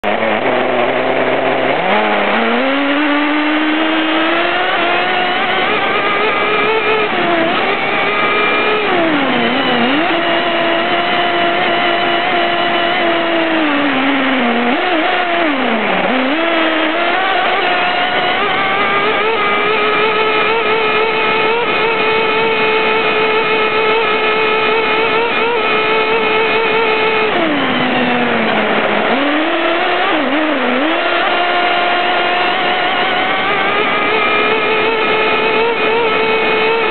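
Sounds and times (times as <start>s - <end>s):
nitro engine revving: 0.0s - 36.9s.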